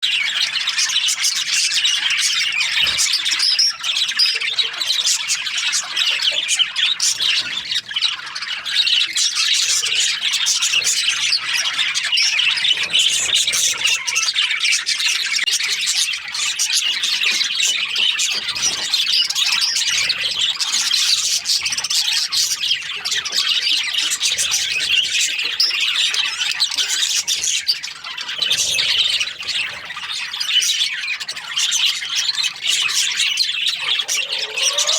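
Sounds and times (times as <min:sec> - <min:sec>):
budgerigars chirping: 0:00.0 - 0:34.9.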